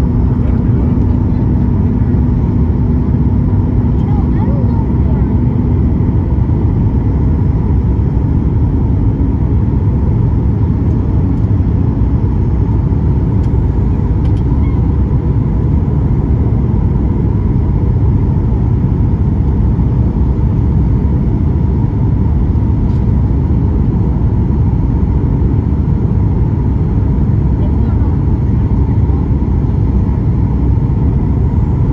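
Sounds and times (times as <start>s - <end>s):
airplane cabin rumble: 0.0s - 31.9s.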